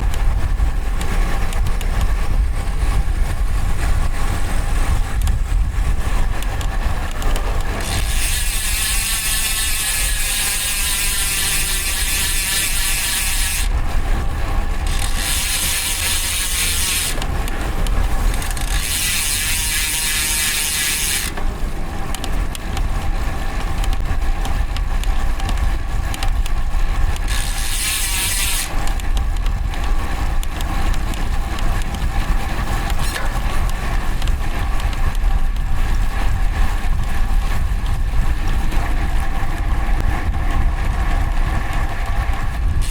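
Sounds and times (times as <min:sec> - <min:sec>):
road rumble: 0:00.0 - 0:42.9
wind on microphone: 0:00.0 - 0:42.9
bicycle freewheel buzzing: 0:04.9 - 0:21.4, 0:22.0 - 0:42.9.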